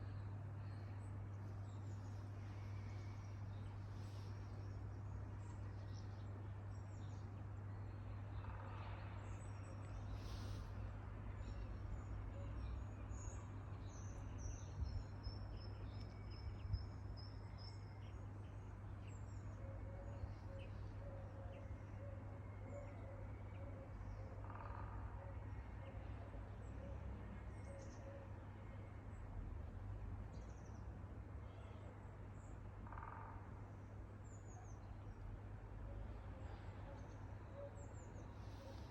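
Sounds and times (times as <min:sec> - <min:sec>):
low hum of city noise: 0:00.0 - 0:38.9.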